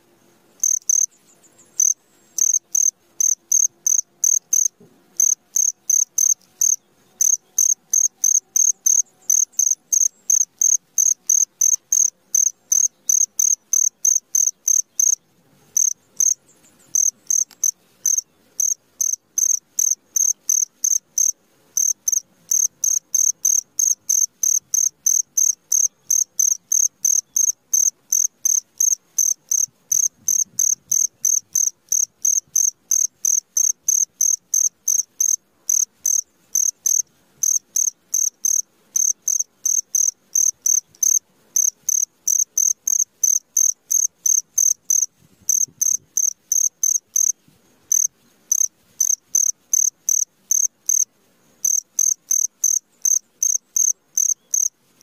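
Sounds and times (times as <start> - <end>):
cricket chirping: 0.6 - 15.2, 15.8 - 55.0.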